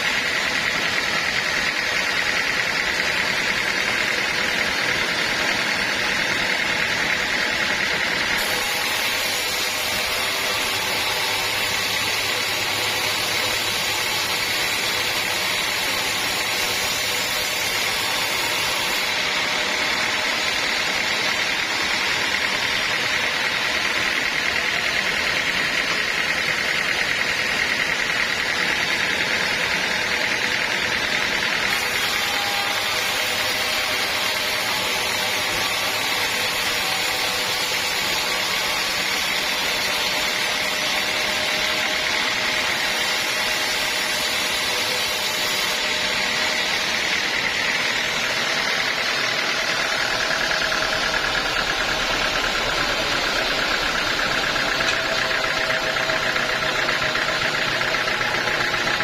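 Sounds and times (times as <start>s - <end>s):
sawmill sawing a log: 0.0s - 59.0s.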